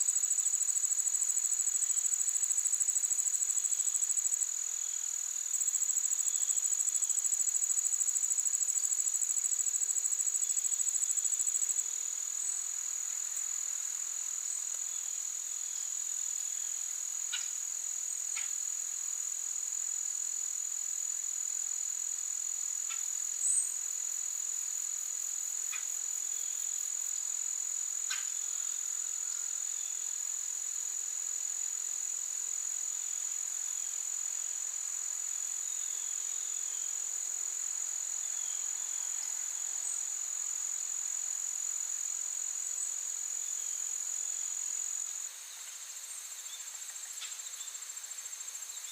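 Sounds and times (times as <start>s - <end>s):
insect chorus: 0.0s - 48.9s.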